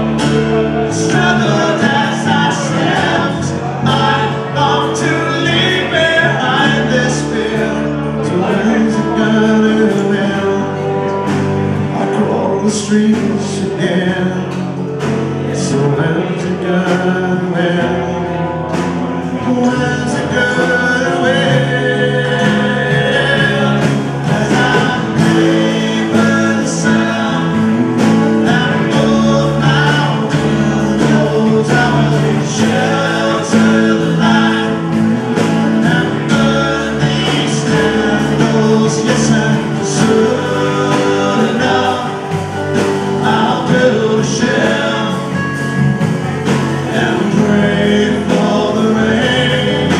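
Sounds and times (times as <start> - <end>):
live band playing: 0.0 - 49.9
person singing: 0.0 - 49.9.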